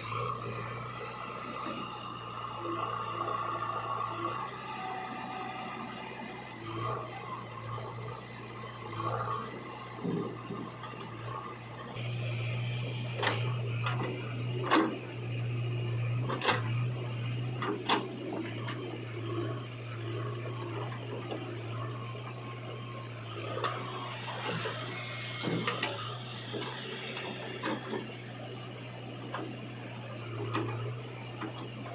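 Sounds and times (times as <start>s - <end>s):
low machine drone: 0.0s - 31.9s.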